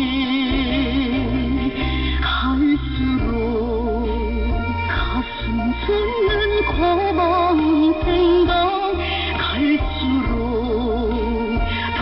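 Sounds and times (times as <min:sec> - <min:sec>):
instrumental accompaniment: 0:00.0 - 0:12.0
person singing with wide vibrato: 0:00.0 - 0:12.0.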